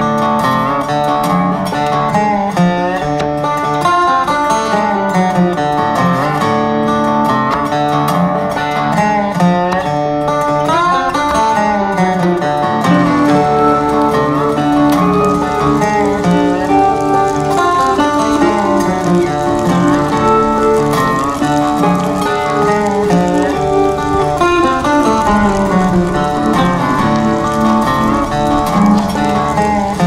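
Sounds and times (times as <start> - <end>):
country music with plucked strings: 0.0 - 30.0.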